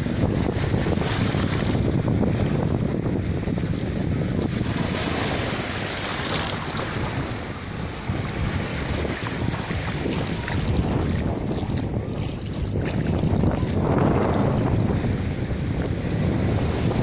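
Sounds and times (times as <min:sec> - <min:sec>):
sea waves washing onto shore: 0:00.0 - 0:17.0
wind buffeting microphone: 0:00.0 - 0:17.0.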